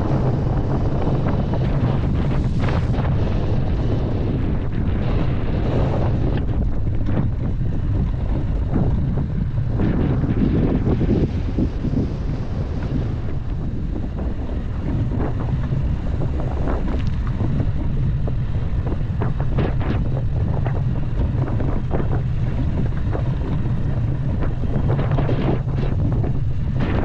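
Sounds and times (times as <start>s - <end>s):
vehicle rumbling over rough ground: 0.0s - 27.0s.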